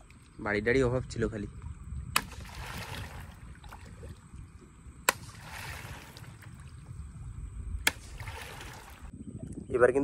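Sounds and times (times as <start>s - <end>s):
water swishing and splashing: 0.0s - 9.1s
wind rumble on microphone: 0.0s - 10.0s.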